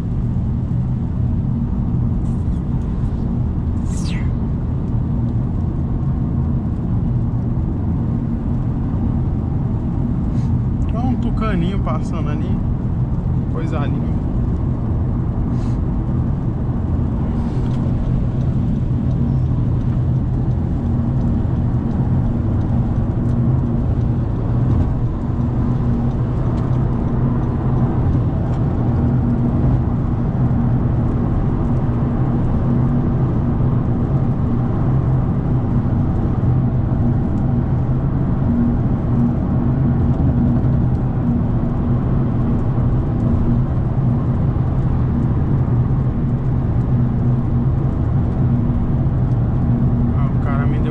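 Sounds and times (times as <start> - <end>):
car engine drone: 0.0 - 50.9
tyre and road noise: 0.0 - 50.9.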